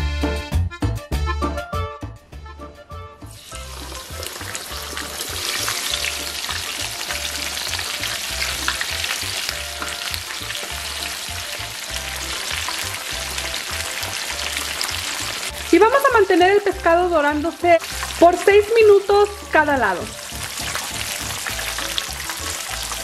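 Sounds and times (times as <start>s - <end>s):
fish frying in sizzling oil: 3.3s - 23.0s.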